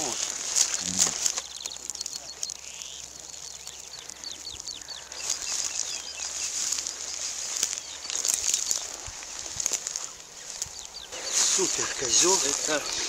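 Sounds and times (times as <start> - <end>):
footsteps through tall grass: 0.0 - 13.0
songbird singing: 0.0 - 13.0.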